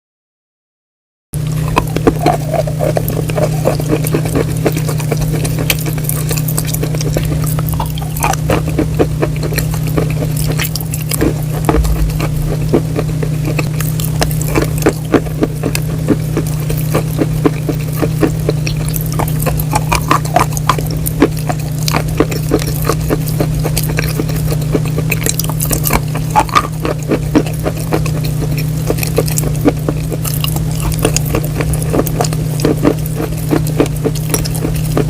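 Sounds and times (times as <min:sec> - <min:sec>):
crisp food crunching: 0:01.4 - 0:35.0
steady low hum: 0:01.4 - 0:35.0.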